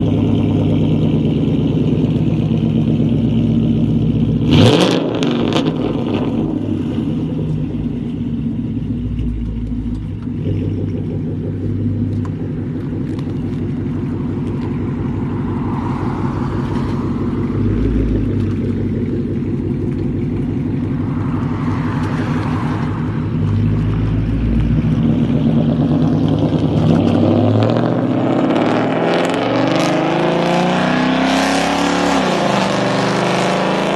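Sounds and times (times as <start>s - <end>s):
loud car engine revving: 0.0s - 33.9s.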